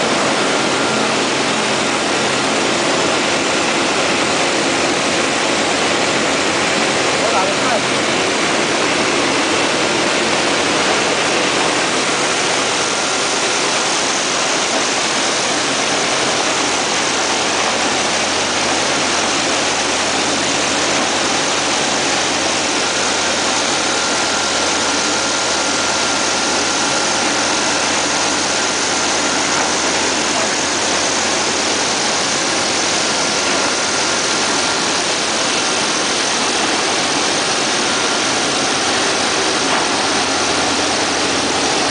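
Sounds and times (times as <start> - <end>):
loud rushing machine noise: 0.0 - 41.9.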